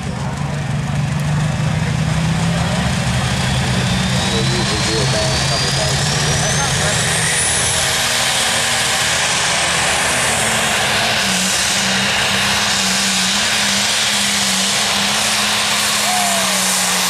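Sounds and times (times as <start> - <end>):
diesel tractor engine under load: 0.0 - 17.0
high turbo whine: 0.0 - 17.0.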